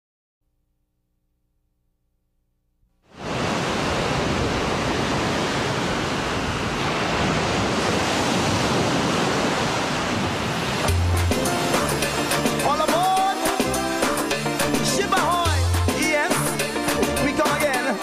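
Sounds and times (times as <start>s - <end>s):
ocean surf on beach: 3.1s - 18.0s.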